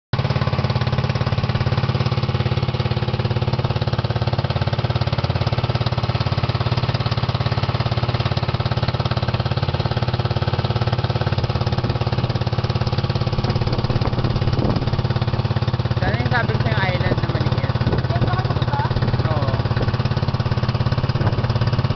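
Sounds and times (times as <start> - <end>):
boat engine pulsing: 0.2 - 21.9.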